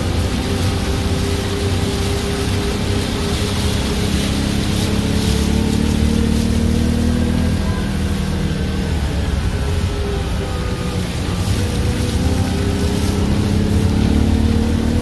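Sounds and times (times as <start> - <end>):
vehicle engine running: 0.0 - 15.0
water washing under tyres: 0.0 - 15.0.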